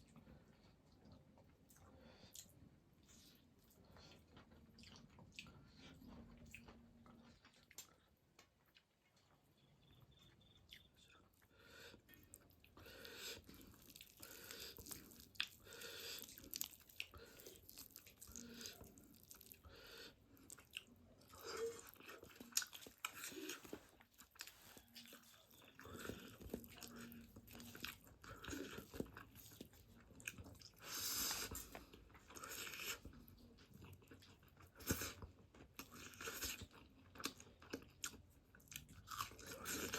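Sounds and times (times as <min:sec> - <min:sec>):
chewing and smacking food: 0:00.0 - 0:39.9.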